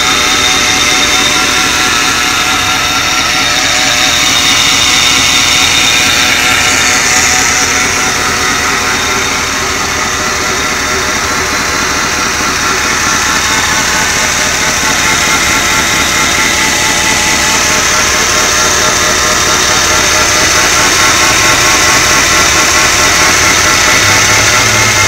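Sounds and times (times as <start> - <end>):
pickup engine idling: 0.0 - 25.0.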